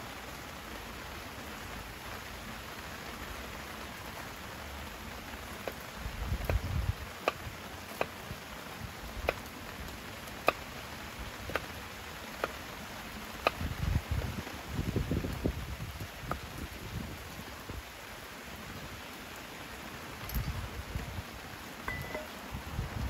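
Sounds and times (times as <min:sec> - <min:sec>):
wood fire crackling: 0:00.0 - 0:21.8
rain falling: 0:00.0 - 0:23.0.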